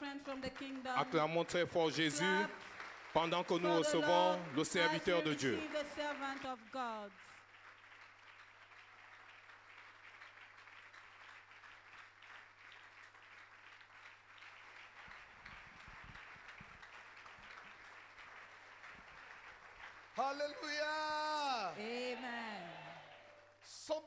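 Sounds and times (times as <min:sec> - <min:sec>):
congregation applause: 0:00.0 - 0:24.0.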